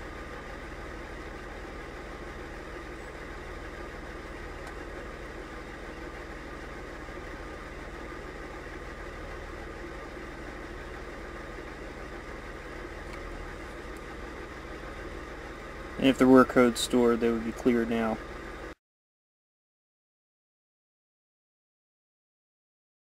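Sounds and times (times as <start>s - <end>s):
car engine idling from cabin: 0.0s - 18.8s.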